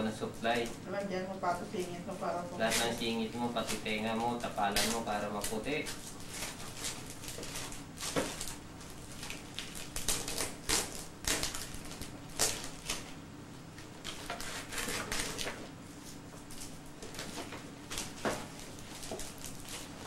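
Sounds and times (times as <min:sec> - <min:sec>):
wrapping paper crinkling: 0:02.6 - 0:13.2, 0:13.8 - 0:20.0.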